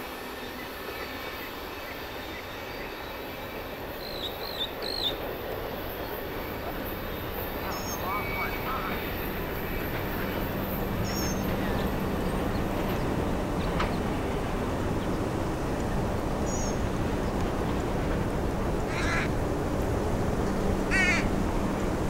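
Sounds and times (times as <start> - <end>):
noisy outdoor background: 0.0 - 22.0.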